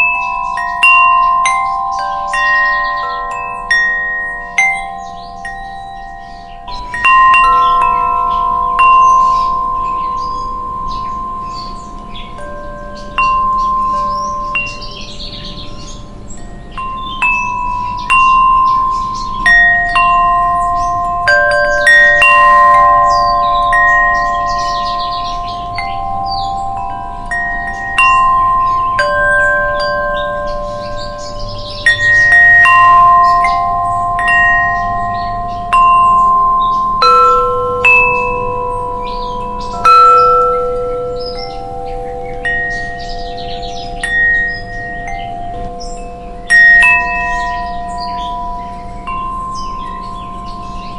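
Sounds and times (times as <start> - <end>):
wind chimes ringing: 0.0 - 50.9.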